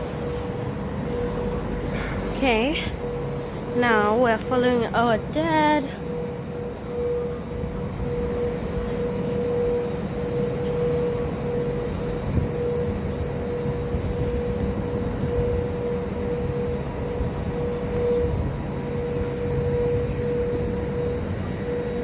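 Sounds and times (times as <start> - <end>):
low train rumble: 0.0 - 22.0
train electrical hum: 0.0 - 22.0.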